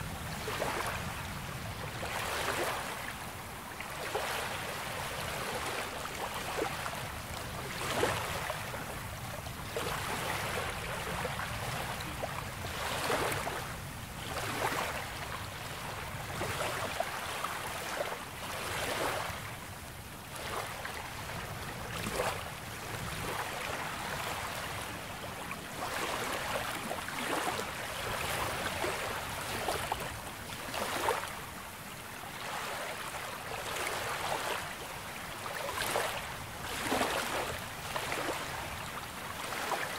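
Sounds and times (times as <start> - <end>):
small waves splashing on shore: 0.0 - 39.9.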